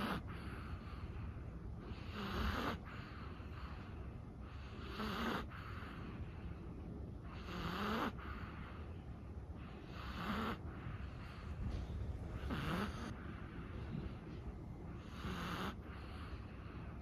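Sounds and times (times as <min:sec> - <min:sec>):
dog snoring: 0:00.0 - 0:06.4, 0:07.2 - 0:08.9, 0:09.6 - 0:11.7, 0:12.3 - 0:14.1, 0:14.9 - 0:17.0.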